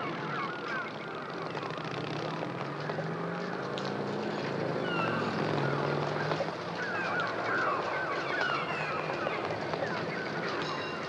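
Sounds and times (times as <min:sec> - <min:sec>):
car and bus engines: 0:00.0 - 0:11.0.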